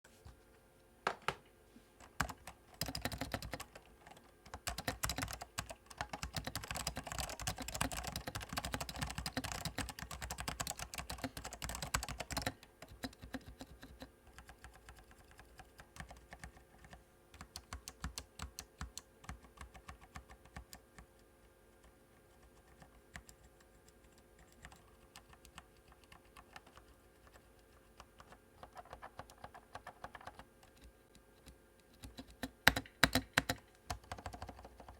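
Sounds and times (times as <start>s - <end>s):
keyboard typing: 2.0s - 34.9s.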